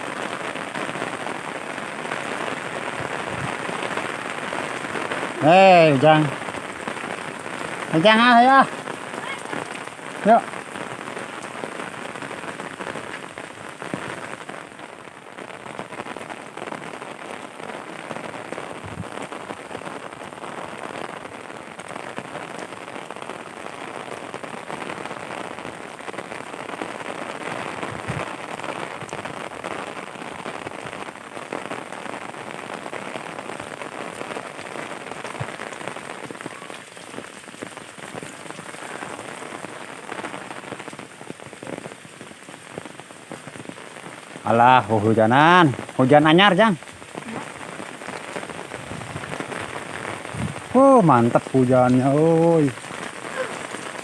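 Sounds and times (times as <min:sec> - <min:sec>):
heavy rain pattering: 0:00.0 - 0:54.0.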